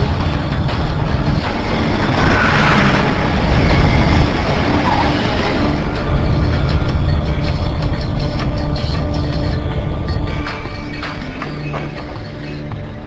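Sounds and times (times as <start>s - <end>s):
dense vehicle rumble: 0.0s - 13.0s.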